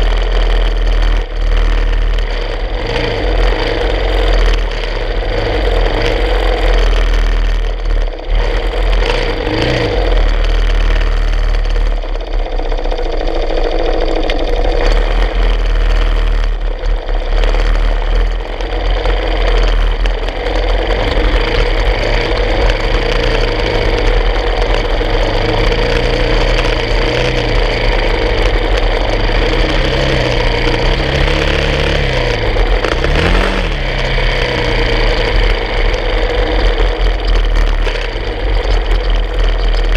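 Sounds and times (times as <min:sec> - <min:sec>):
motorcycle engine running: 0:00.0 - 0:39.9
other motorcycle engines: 0:00.0 - 0:39.9.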